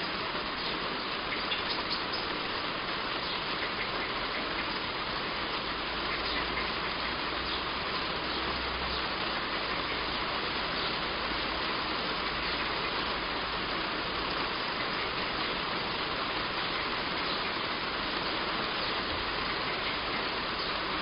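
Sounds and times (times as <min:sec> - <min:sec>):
heavy rain on a roof: 0:00.0 - 0:21.0.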